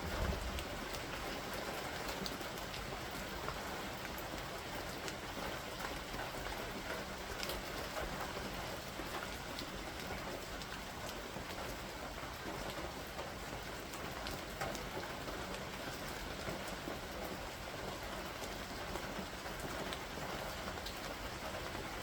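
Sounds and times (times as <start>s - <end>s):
raindrops ticking on surfaces: 0.0s - 22.0s
steady rain falling: 0.0s - 22.0s.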